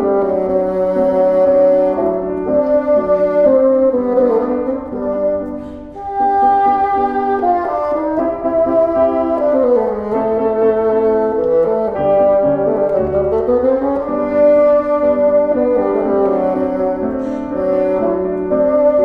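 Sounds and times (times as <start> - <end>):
bassoon solo: 0.0 - 19.0
piano accompaniment: 0.0 - 19.0.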